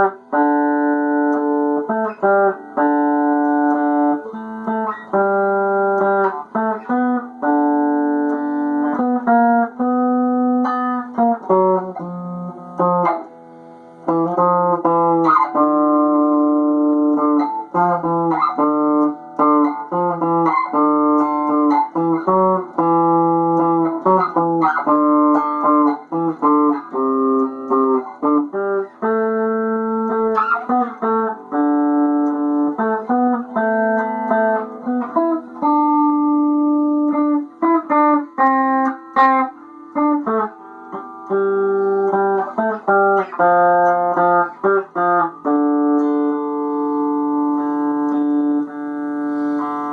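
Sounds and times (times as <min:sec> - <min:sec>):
plucked stringed instrument: 0:00.0 - 0:49.9.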